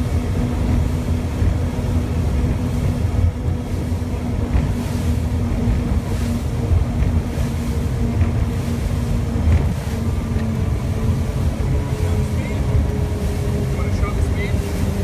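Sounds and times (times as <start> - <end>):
boat outboard engines rumbling: 0.0 - 15.0
water rushing past: 0.0 - 15.0
wind: 0.0 - 15.0.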